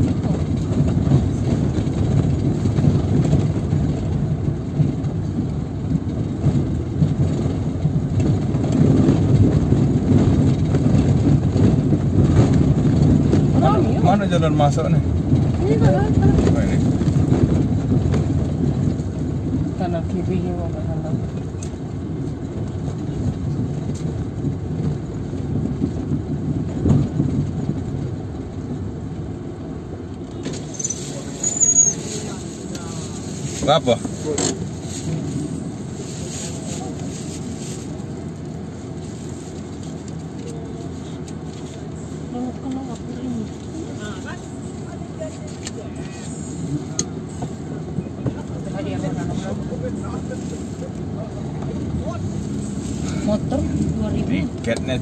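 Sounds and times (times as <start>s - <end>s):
car driving on dirt road: 0.0s - 55.0s.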